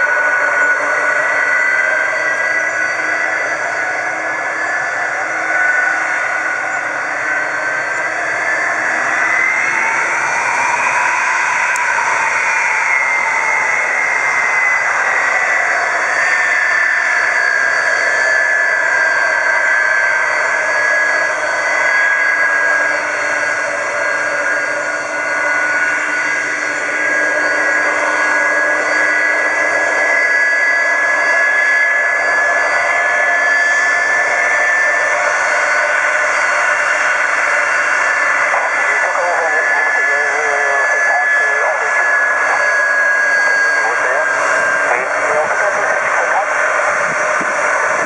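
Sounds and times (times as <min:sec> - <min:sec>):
jet engines whining: 0:00.0 - 0:48.0
rush of jet noise: 0:00.0 - 0:48.0.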